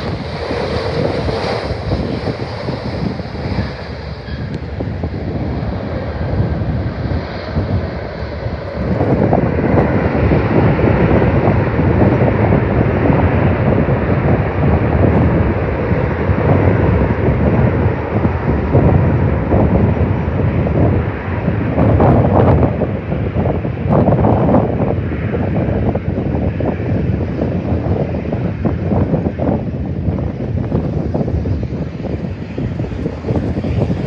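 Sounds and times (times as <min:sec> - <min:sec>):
jet engines rumbling: 0:00.0 - 0:34.0
wind buffeting microphone: 0:00.0 - 0:34.0.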